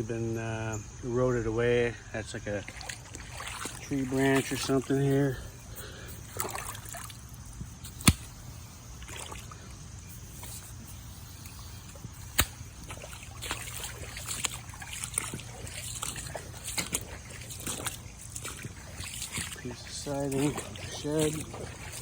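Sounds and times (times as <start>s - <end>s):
creek water trickling: 0.0s - 22.0s
light crackles and rustles: 2.6s - 22.0s.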